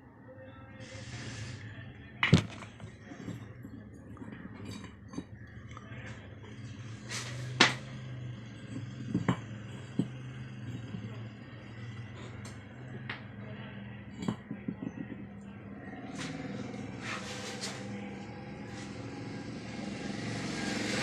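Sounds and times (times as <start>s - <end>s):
steady low hum: 0.5s - 21.0s.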